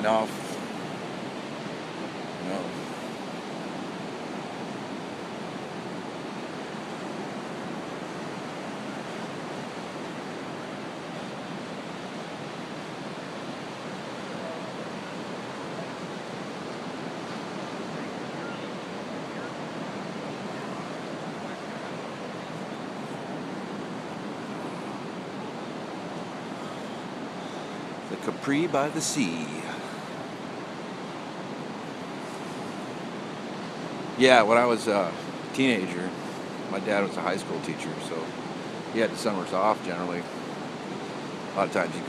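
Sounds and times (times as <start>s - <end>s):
ocean surf washing ashore: 0.0s - 42.0s.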